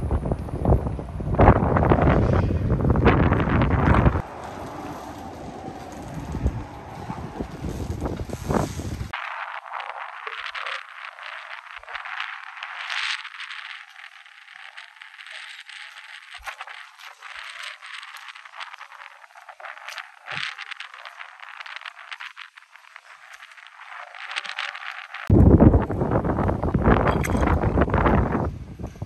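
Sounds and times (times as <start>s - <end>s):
wind hiss: 0.0s - 29.0s
small rattles and crackles: 1.5s - 29.0s.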